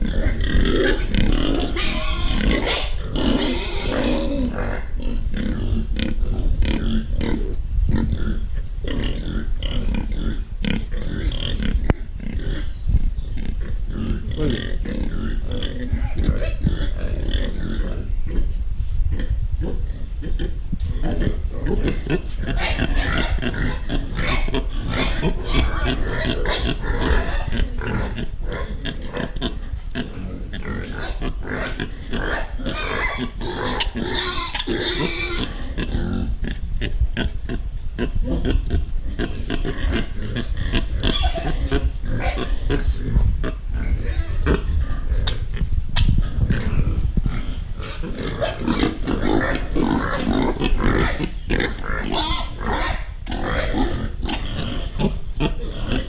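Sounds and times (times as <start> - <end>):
pigs grunting: 0.0 - 12.8, 13.4 - 18.5, 19.1 - 56.0.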